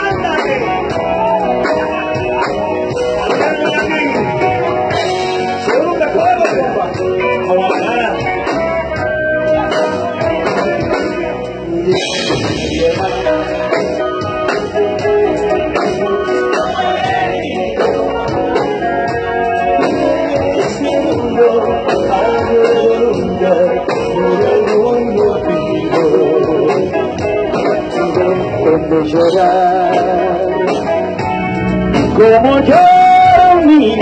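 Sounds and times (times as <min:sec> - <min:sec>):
guitar: 0:00.0 - 0:34.0
live band playing: 0:00.0 - 0:34.0.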